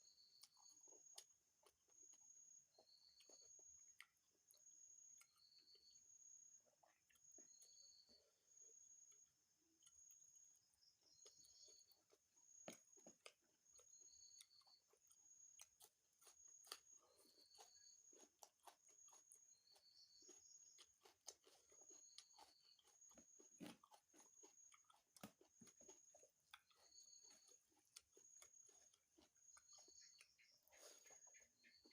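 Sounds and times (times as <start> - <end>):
faint high chirp: 0.0 - 25.0, 25.6 - 31.9
chewing and crunching food: 0.0 - 31.9.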